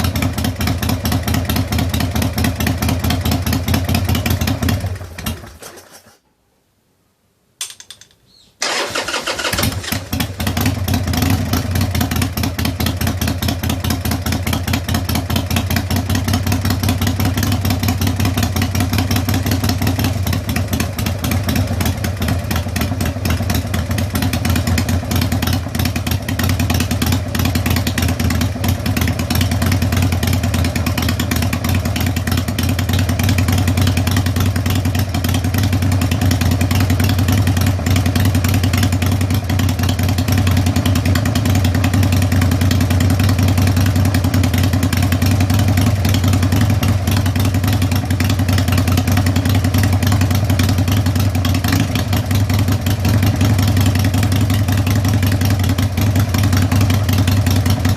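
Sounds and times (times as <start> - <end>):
motorcycle engine idling: 0.0 - 5.8, 8.6 - 57.9.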